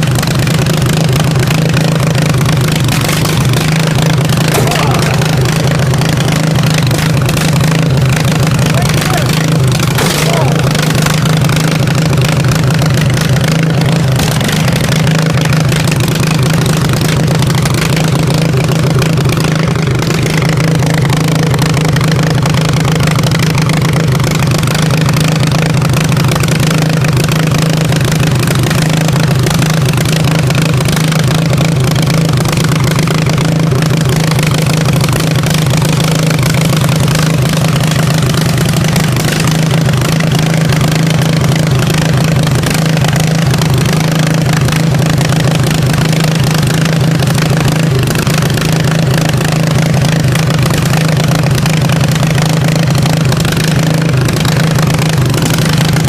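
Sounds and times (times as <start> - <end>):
riding lawnmower engine running: 0.0 - 56.0.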